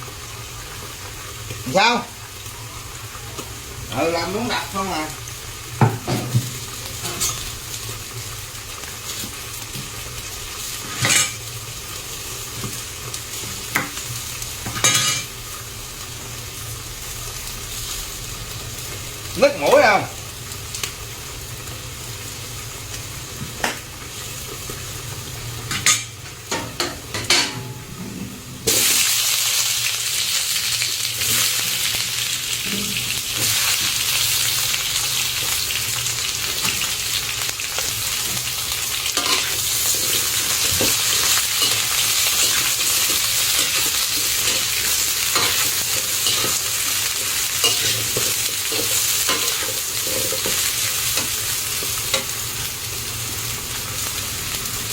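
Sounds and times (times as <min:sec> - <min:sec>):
meat sizzling in hot oil: 0:00.0 - 0:54.9.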